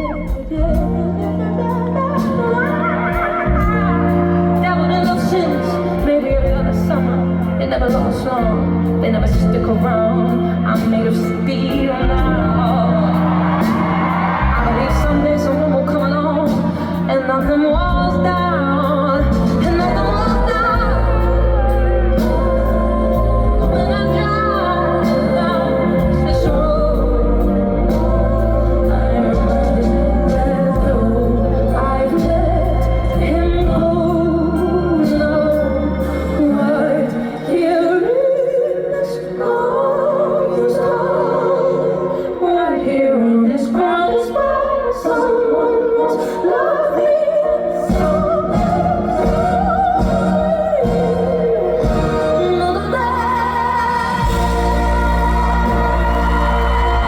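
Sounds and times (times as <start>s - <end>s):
sustained bass line: 0.0s - 37.5s, 47.9s - 57.0s
woman singing over a band: 0.0s - 57.0s.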